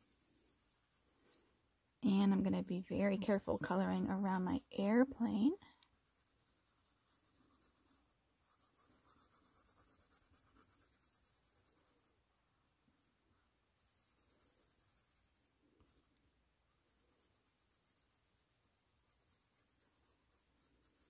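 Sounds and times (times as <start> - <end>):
crayon scratching on paper: 0.0 - 21.0.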